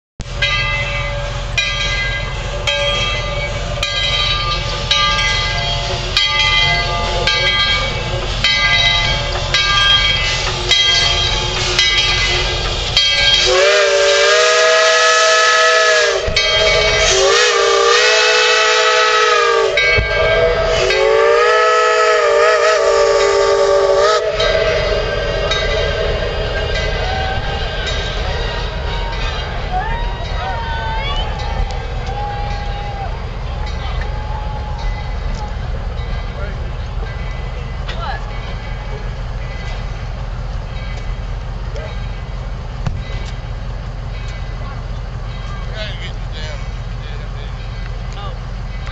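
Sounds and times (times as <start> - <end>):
low locomotive rumble: 0.2 - 48.9
steam locomotive bell ringing: 0.2 - 48.9.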